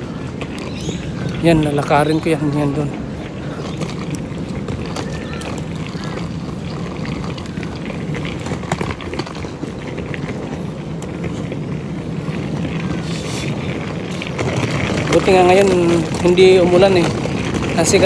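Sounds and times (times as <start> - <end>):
suitcase wheels rumbling on pavement: 0.0 - 18.0.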